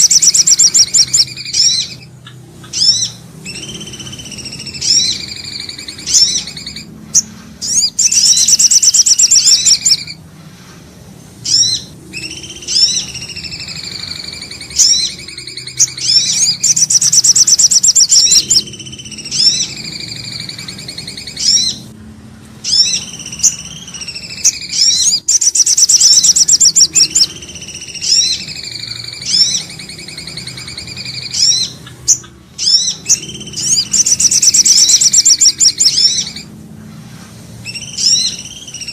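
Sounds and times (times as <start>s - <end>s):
fast bird trill: 0.0s - 10.2s, 11.4s - 21.9s, 22.6s - 36.5s, 37.6s - 38.9s
bird calls and whistles: 0.0s - 22.0s, 22.6s - 38.9s.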